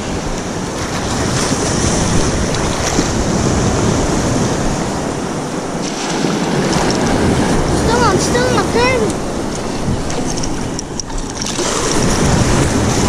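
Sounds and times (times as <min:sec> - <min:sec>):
small waves sloshing: 0:00.0 - 0:13.0
wind buffeting microphone: 0:00.0 - 0:13.0.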